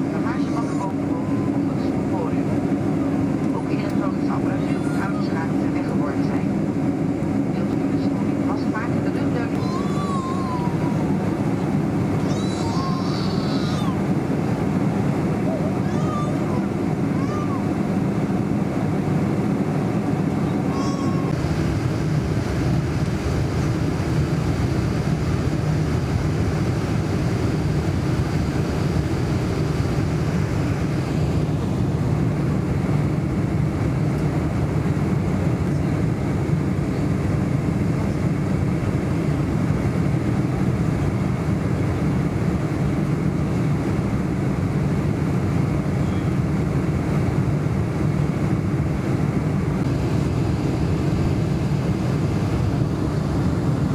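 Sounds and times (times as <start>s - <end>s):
jet engines rumbling in cabin: 0.0s - 53.9s.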